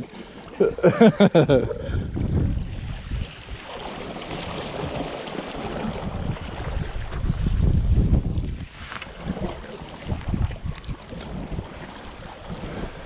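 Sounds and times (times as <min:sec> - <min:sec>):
water lapping against rocks: 0:00.0 - 0:13.0
wind buffeting microphone: 0:01.4 - 0:13.0.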